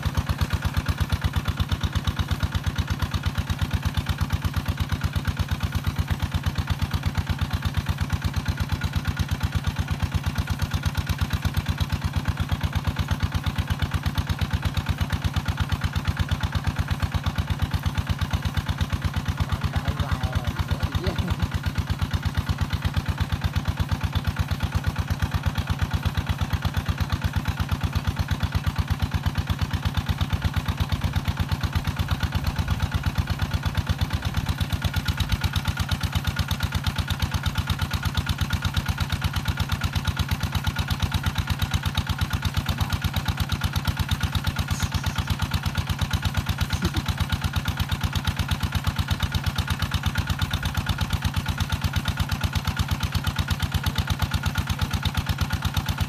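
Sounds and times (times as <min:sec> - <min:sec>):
small pump engine chugging: 0:00.0 - 0:56.0.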